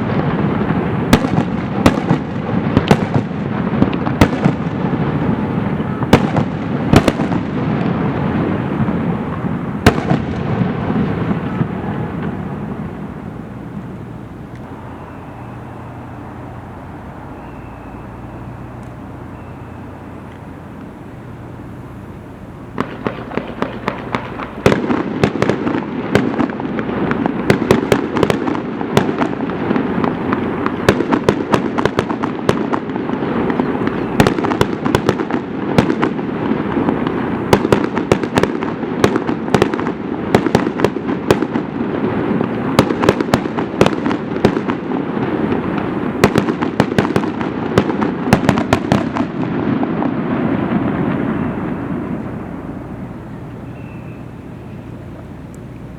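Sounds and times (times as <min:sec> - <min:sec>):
fireworks cracks and bangs: 0:00.0 - 0:53.6
low background noise: 0:00.0 - 0:55.9.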